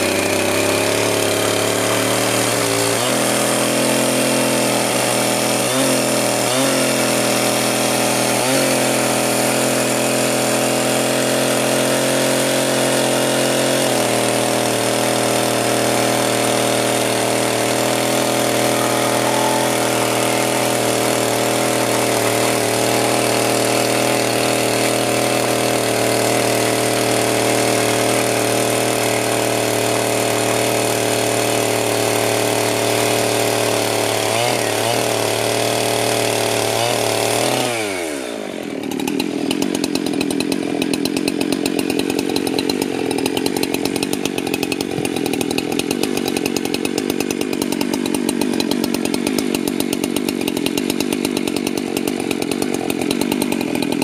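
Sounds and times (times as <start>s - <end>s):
power sander on wood: 0.0s - 54.0s.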